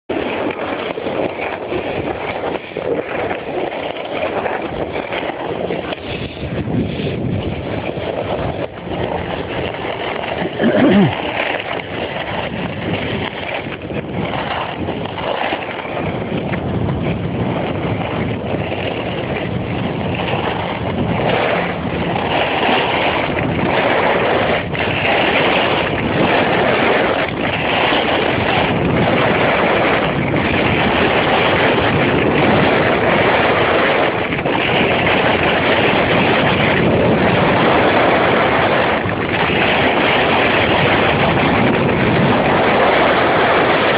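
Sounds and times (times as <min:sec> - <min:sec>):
snowblades scraping over snow: 0:00.1 - 0:43.9
wind on microphone: 0:00.1 - 0:43.9.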